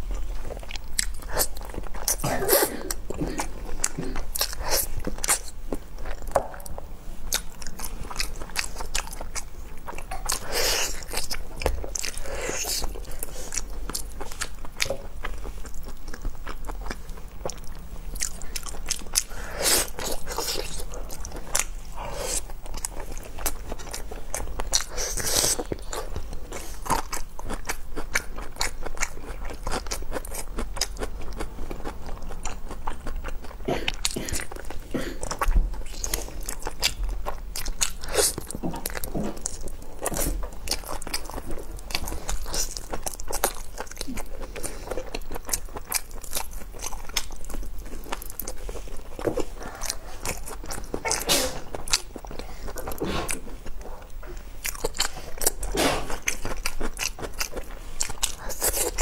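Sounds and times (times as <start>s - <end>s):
chewing and biting meat: 7.3s - 59.0s.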